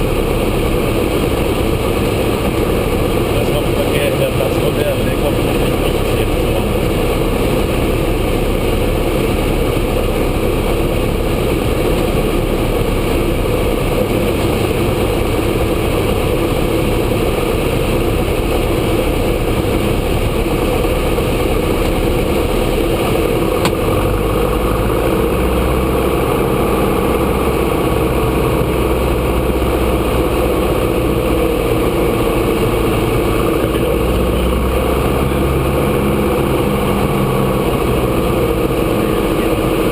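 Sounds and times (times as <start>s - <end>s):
light aircraft engine running: 0.0s - 39.9s.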